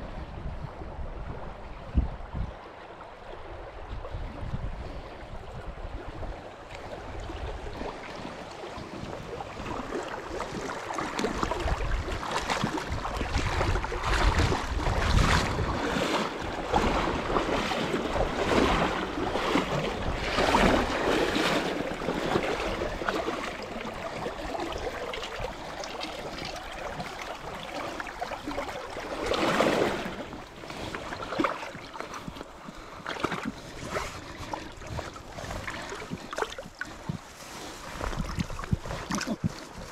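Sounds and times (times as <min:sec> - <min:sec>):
wind rumbling on microphone: 0:00.0 - 0:39.9
river water splashing: 0:00.9 - 0:39.9.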